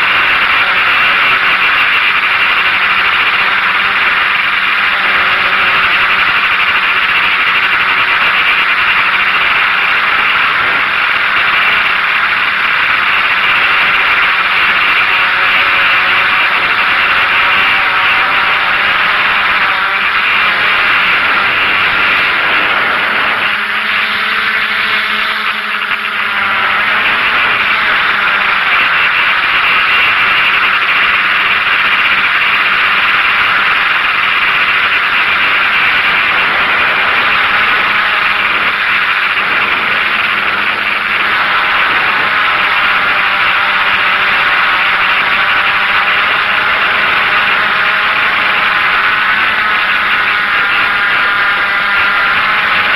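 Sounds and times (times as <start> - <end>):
drone propellers whirring: 0.0 - 52.9.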